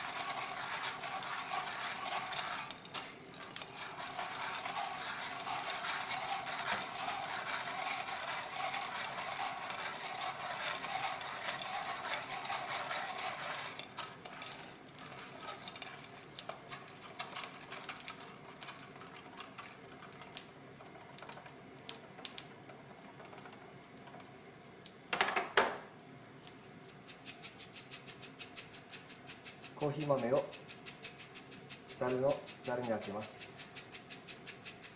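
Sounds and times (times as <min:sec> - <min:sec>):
coffee beans popping: 0:00.0 - 0:18.7, 0:19.4 - 0:23.2, 0:26.9 - 0:34.9
coffee beans rattling in a roaster: 0:00.0 - 0:24.4, 0:26.9 - 0:34.9.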